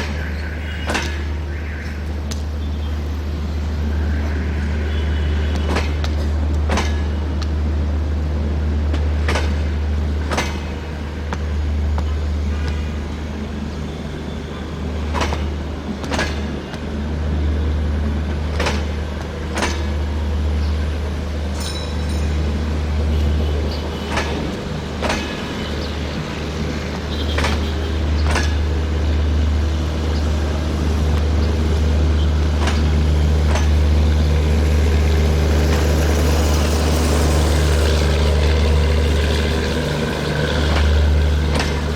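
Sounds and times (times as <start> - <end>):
wheels clacking over rail joints: 0.0 - 2.6, 4.4 - 13.9, 14.5 - 41.9
train coaches rumbling past: 0.0 - 41.9.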